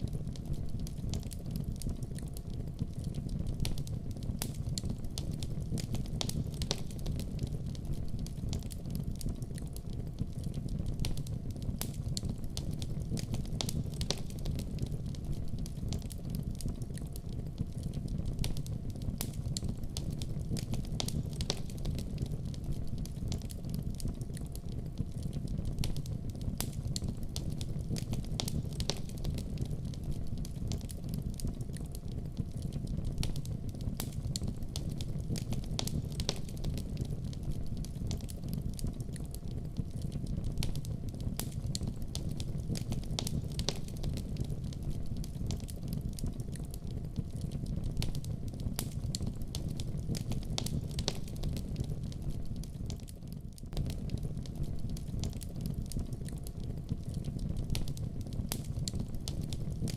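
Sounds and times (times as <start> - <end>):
wood fire burning: 0.0 - 59.9.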